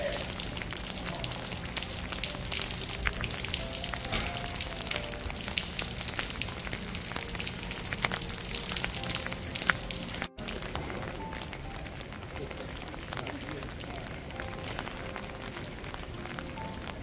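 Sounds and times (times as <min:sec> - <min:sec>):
rain drops striking: 0:00.0 - 0:17.0
soft background music: 0:00.0 - 0:17.0.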